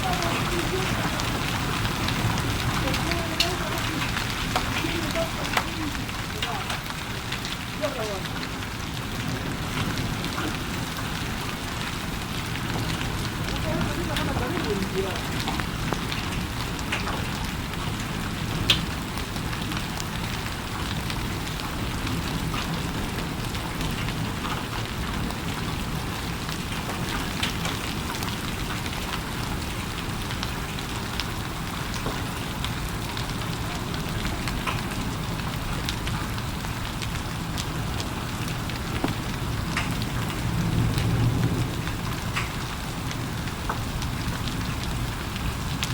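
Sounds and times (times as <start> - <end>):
heavy rain falling: 0.0 - 45.9
raindrops ticking: 0.0 - 45.9.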